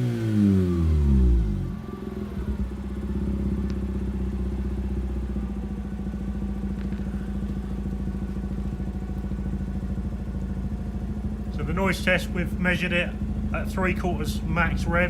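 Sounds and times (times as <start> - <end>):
rotary engine running steadily: 0.0 - 15.0.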